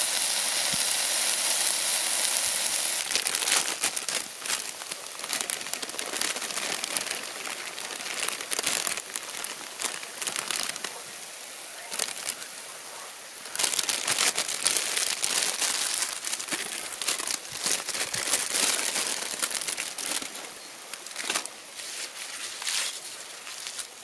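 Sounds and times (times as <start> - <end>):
plastic bag crinkling: 3.0 - 11.0, 11.8 - 12.5, 13.4 - 24.0.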